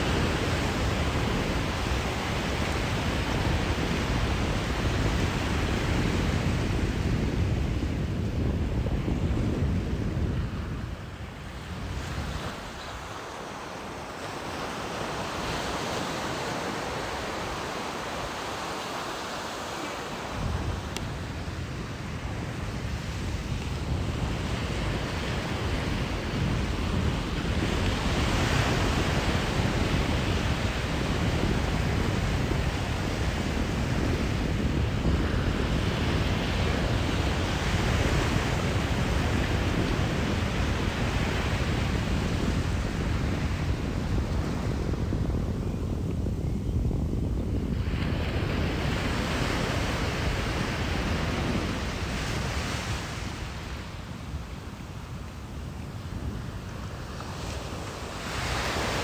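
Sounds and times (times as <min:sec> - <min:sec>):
ocean surf washing in and out: 0:00.0 - 0:59.0
wind rumble on microphone: 0:00.0 - 0:59.0.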